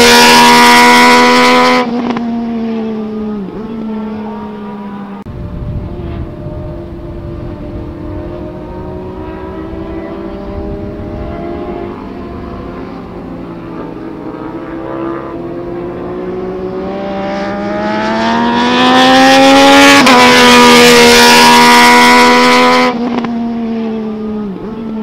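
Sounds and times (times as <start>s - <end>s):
motorcycle accelerating past: 0.0s - 25.0s.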